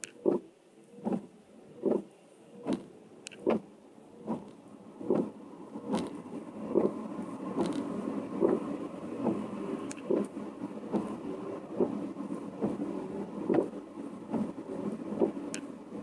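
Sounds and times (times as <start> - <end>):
windscreen wipers on wet glass: 0.2 - 16.0.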